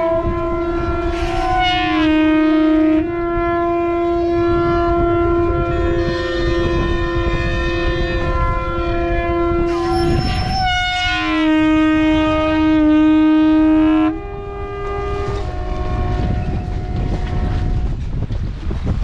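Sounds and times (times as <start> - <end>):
boat horns blasting: 0.0 - 18.1.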